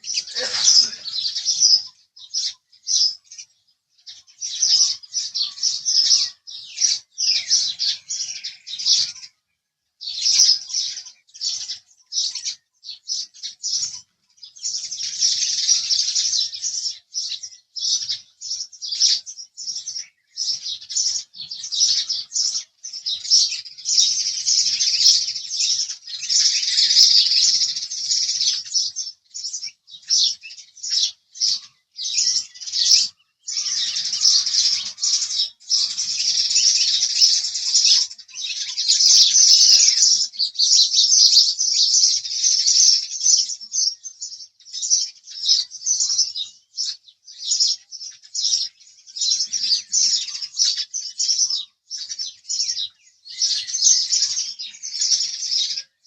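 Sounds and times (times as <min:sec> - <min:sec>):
sparrow chirping: 0:00.0 - 0:56.0.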